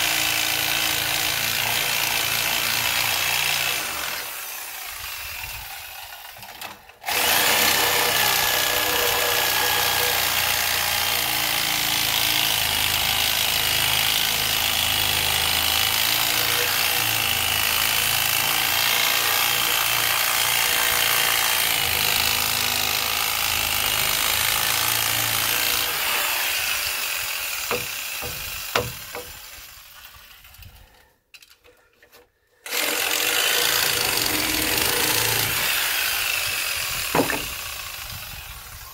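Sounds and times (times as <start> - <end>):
reciprocating saw cutting wood: 0.0 - 30.6, 32.6 - 38.9.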